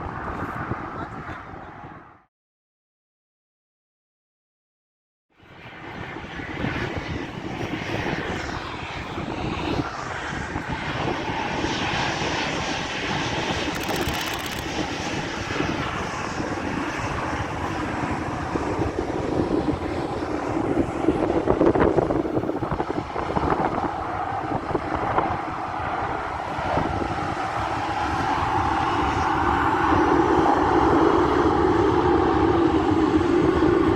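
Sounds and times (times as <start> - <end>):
jet engines rushing: 0.0 - 2.3, 5.4 - 33.9.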